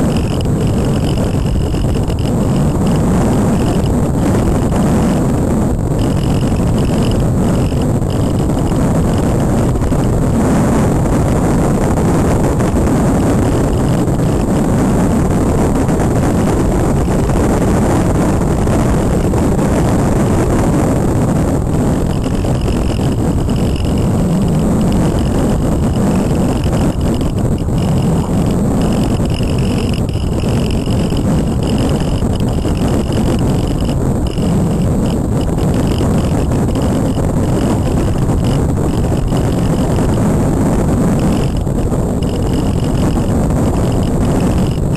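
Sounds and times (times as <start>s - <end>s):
steady high whine: 0.0s - 44.9s
wind rushing over microphone: 0.0s - 44.9s.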